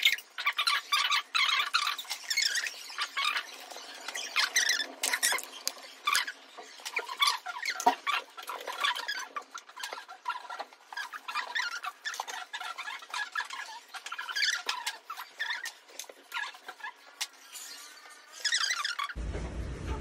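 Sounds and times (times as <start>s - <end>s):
high-pitched chirps and squeaks: 0.0s - 19.2s.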